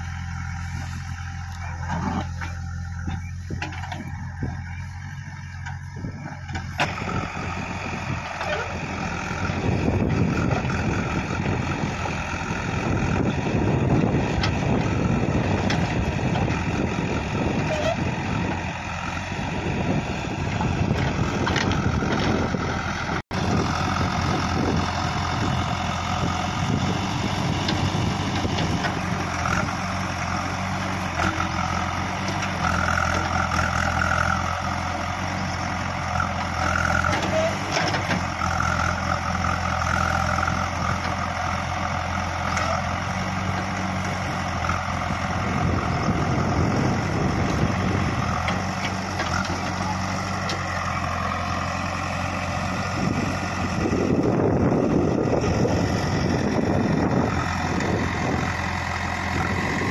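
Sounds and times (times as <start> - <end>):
backhoe digging scrub: 0.0 - 59.9
diesel engine under load: 0.0 - 59.9.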